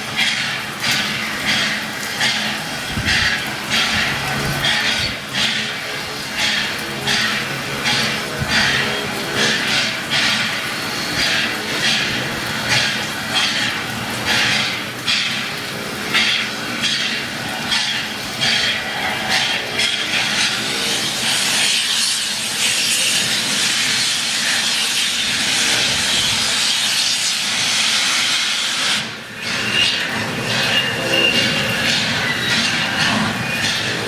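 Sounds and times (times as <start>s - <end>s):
loud hiss of steam: 0.0s - 34.0s
steam locomotive exhaust chuffing: 0.0s - 34.0s.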